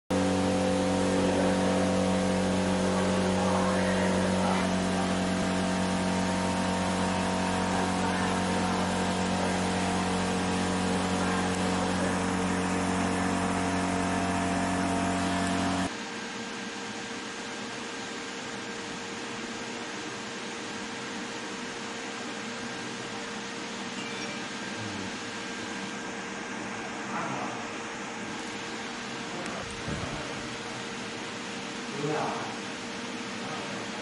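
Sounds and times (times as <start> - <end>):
laser marking machine buzzing hum: 0.1 - 34.0.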